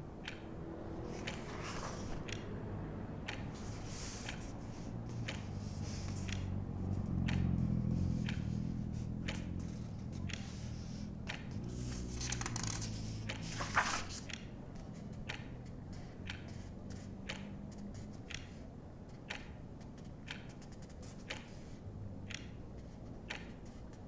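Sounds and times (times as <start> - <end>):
clock ticking: 0.0 - 24.0
traffic rumbling outside: 0.0 - 24.0.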